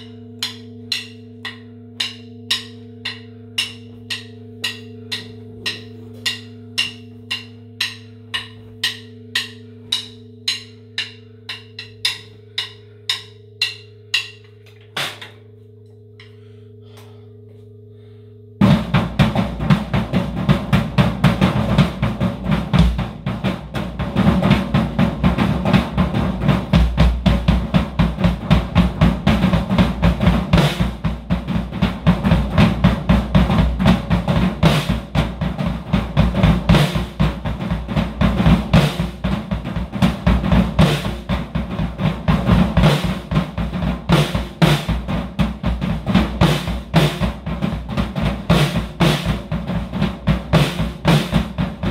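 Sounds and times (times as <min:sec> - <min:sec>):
drum kit playing: 0:00.0 - 0:15.4, 0:18.6 - 0:51.9
cymbals: 0:00.0 - 0:51.9.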